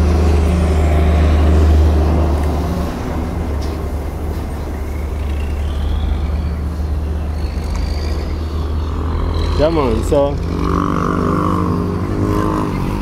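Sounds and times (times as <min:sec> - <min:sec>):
heavy vehicle engine rumble: 0:00.0 - 0:13.0
road traffic passing: 0:00.0 - 0:13.0.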